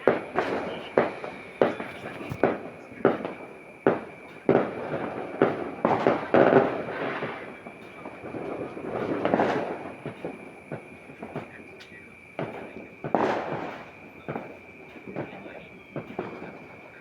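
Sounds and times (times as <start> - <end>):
fireworks bangs: 0.0 - 17.0
rumbling fireworks crackle: 0.0 - 17.0
small fireworks pops: 0.0 - 17.0.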